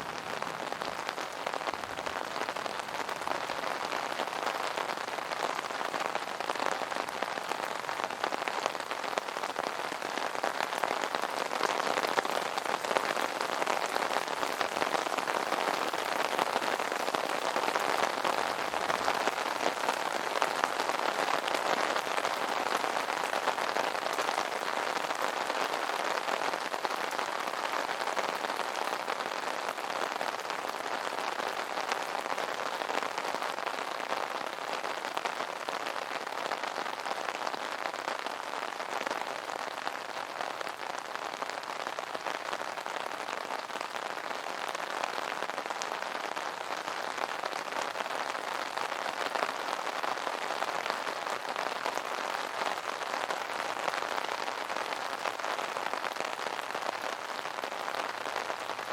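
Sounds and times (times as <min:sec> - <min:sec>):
rain on an umbrella: 0:00.0 - 0:58.9.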